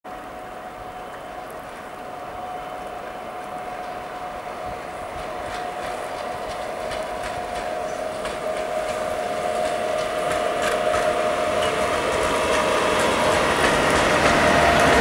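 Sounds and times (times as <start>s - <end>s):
electric locomotive hum: 0.1s - 15.0s
wheels clicking over rail joints: 1.1s - 15.0s.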